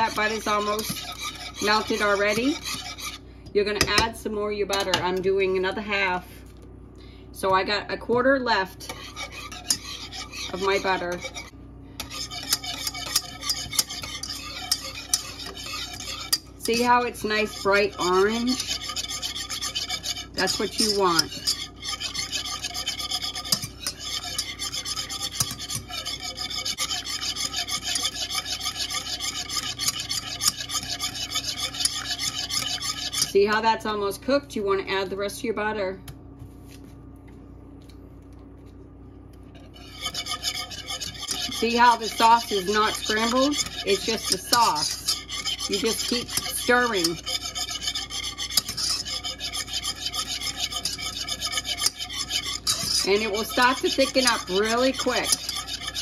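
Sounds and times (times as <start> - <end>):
whisk scraping and swishing in pan: 0.0 - 4.0, 7.5 - 33.9, 39.5 - 56.0.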